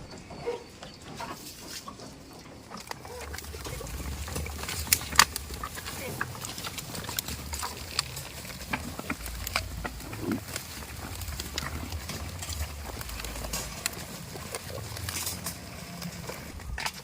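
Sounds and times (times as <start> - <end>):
goat hooves clicking and knocking: 0.0 - 17.0
steady low rumble: 3.2 - 17.0.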